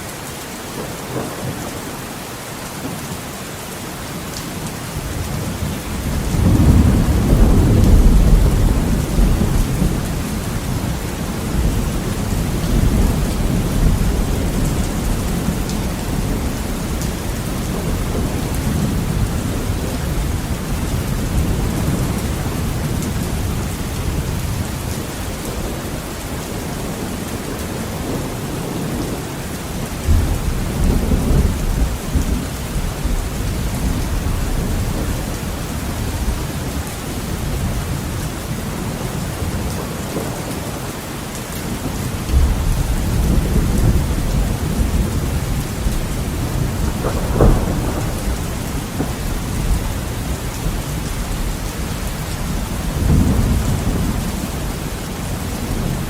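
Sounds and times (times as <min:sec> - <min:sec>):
heavy rain on a window: 0:00.0 - 0:56.0
thunder rumbling: 0:05.0 - 0:40.9, 0:41.6 - 0:56.0.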